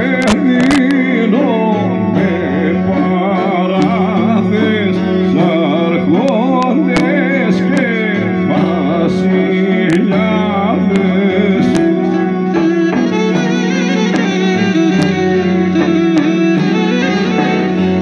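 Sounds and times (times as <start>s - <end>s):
folk melody over held notes: 0.0s - 18.0s
person singing: 0.0s - 18.0s.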